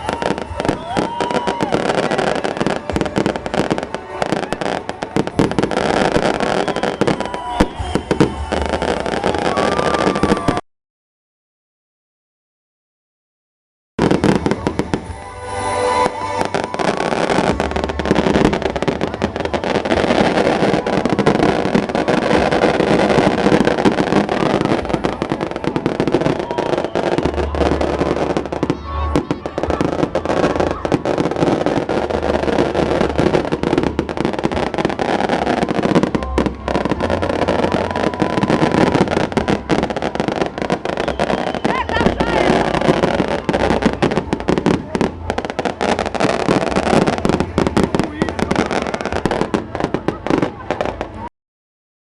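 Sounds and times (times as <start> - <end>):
crowd voices: 0.0 - 10.6, 14.0 - 51.3
festival music: 0.0 - 10.6, 14.0 - 51.3
fireworks crackling: 0.0 - 10.6, 14.0 - 51.3.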